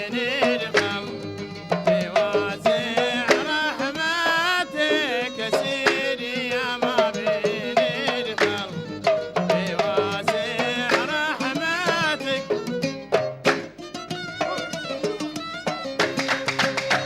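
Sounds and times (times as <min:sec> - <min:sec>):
violin ornamented melody: 0:00.0 - 0:06.3, 0:07.5 - 0:17.0
hand drum strokes: 0:00.0 - 0:17.0.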